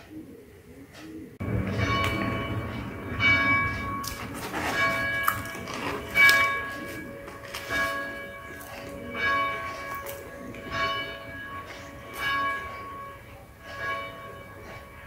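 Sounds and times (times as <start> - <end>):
bell tolling: 1.4 - 15.0.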